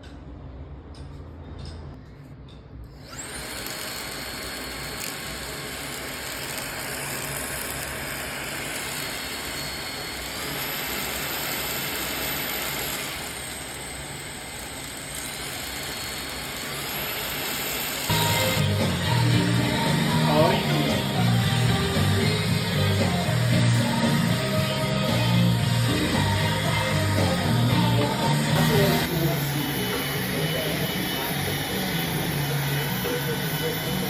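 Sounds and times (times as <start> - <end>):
vacuum cleaner motor whine: 3.0 - 34.0.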